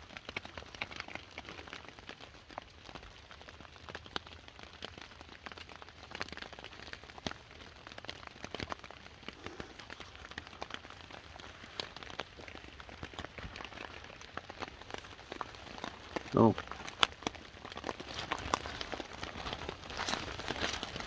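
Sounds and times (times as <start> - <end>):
single raindrops ticking: 0.0 - 21.0
steady rain patter: 0.0 - 21.0.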